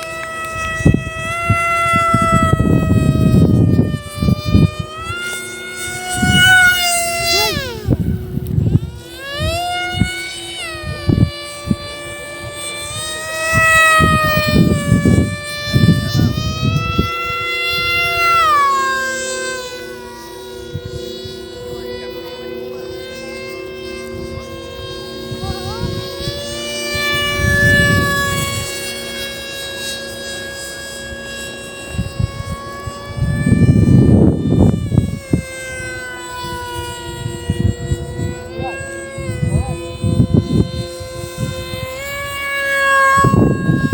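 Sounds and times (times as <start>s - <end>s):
motor spinning propeller whine: 0.0s - 43.9s.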